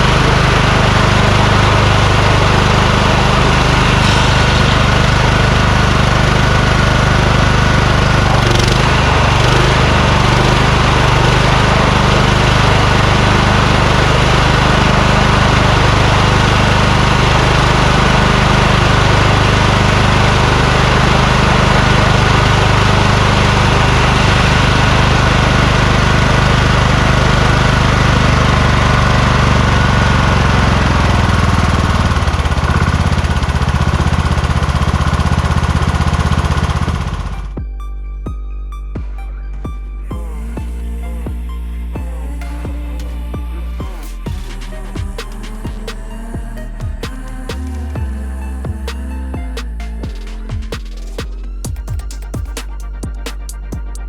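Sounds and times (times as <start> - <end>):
lawn tractor engine running: 0.0 - 37.7, 39.0 - 54.0.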